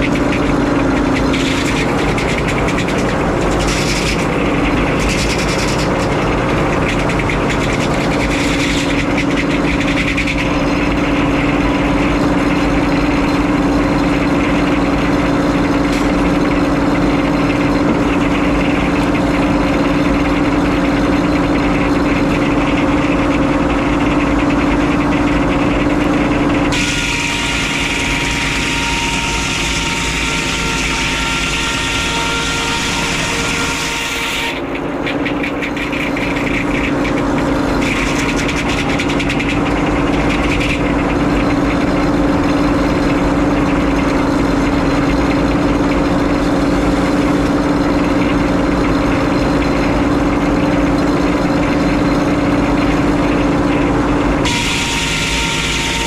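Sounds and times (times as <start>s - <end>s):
saw whining through log: 0.0s - 56.0s
sawmill engine and blade hum: 0.0s - 56.0s.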